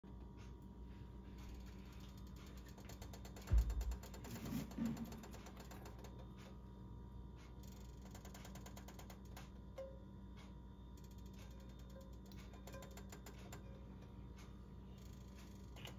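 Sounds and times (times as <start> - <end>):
frying pan ticking and creaking: 1.4 - 6.6, 7.7 - 15.9.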